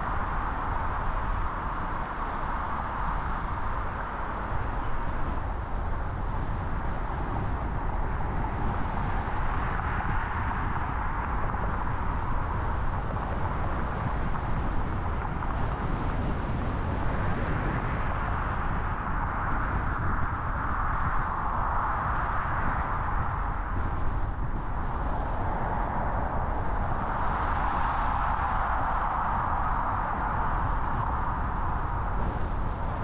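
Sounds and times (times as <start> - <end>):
car road noise: 0.0 - 33.0.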